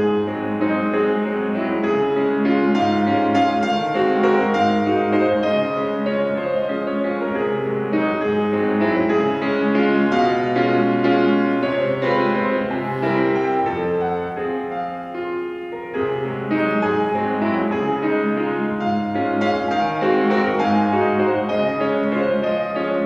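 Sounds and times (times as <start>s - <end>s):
solo classical piano: 0.0s - 23.0s.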